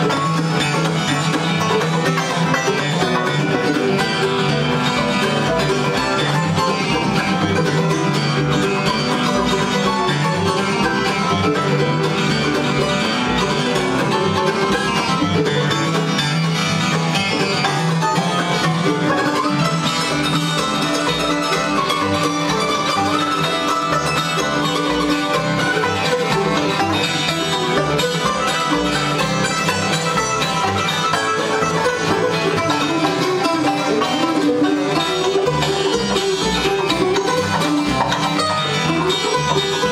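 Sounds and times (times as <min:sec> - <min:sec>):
acoustic guitar: 0:00.0 - 0:39.9
banjo: 0:00.0 - 0:39.9
mandolin: 0:00.0 - 0:39.9.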